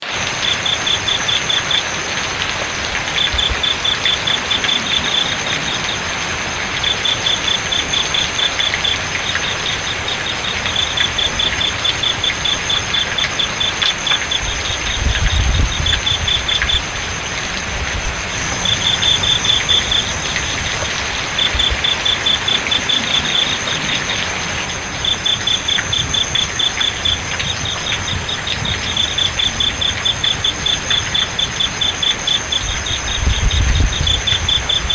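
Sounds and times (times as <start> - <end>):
crickets chirping: 0.0 - 34.9
flowing water hiss: 0.0 - 34.9
high insect trill: 0.2 - 2.0, 3.0 - 34.9.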